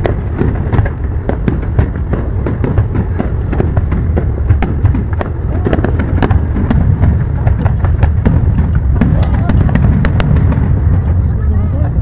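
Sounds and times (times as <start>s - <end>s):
low booming of bursting shells: 0.0s - 11.4s
fireworks crackling and popping: 0.0s - 12.0s.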